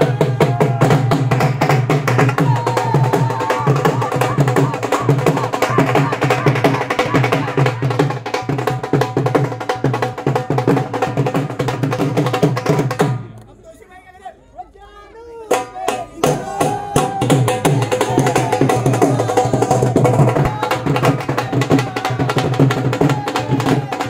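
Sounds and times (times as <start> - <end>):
dhol drums in fast rhythm: 0.0 - 13.3, 15.5 - 24.0.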